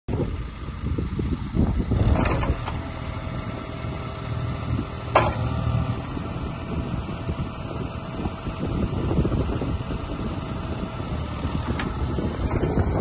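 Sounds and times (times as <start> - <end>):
diesel engine running: 0.1 - 13.0.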